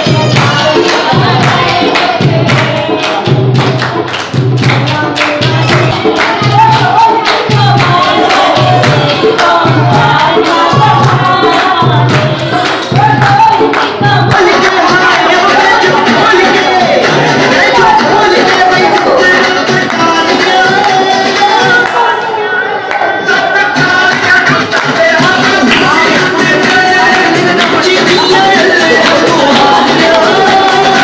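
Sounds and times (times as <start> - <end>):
hand drum beat: 0.0 - 21.7, 23.8 - 31.0
hand-clapping: 0.0 - 22.1, 22.9 - 31.0
women singing together: 0.0 - 31.0.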